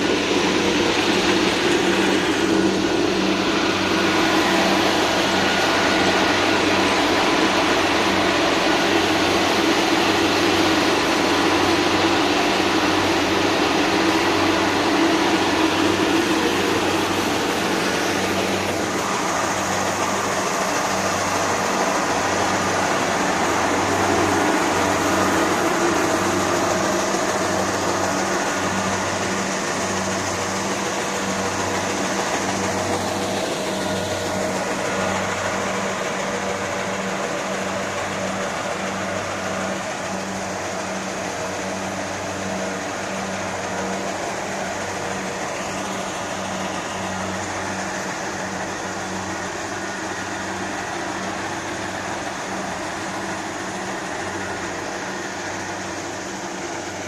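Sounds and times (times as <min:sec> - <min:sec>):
harvesting machine throbbing: 0:00.0 - 0:57.0.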